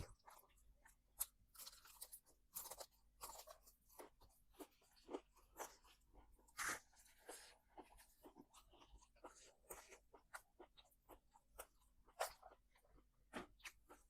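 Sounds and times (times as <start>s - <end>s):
crunching fried chicken: 0.0s - 14.0s.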